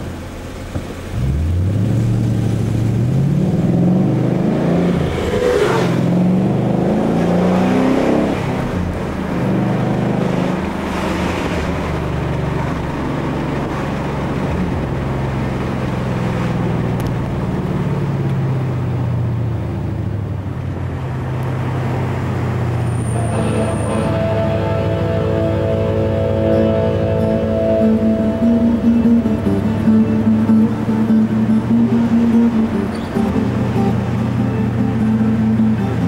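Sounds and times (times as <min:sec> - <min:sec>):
car engine revving: 0:00.0 - 0:20.1, 0:20.7 - 0:36.0.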